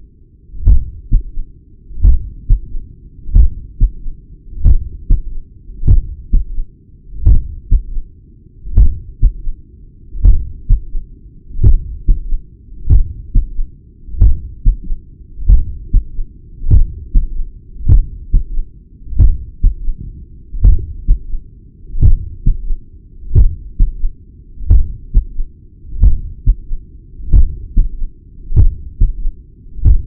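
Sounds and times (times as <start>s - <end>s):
continuous low hiss: 0.0s - 30.0s
heartbeat through stethoscope: 0.6s - 1.4s, 2.0s - 6.6s, 7.2s - 8.0s, 8.7s - 9.6s, 10.2s - 11.0s, 11.6s - 21.4s, 22.0s - 30.0s.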